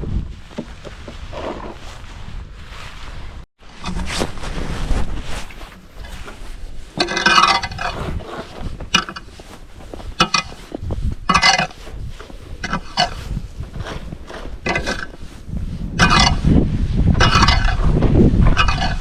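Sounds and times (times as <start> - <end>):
snow shovel scraping pavement: 0.3 - 16.6.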